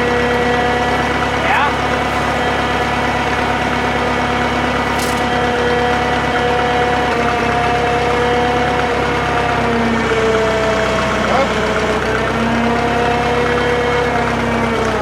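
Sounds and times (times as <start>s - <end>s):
crane engine running: 0.0s - 15.0s.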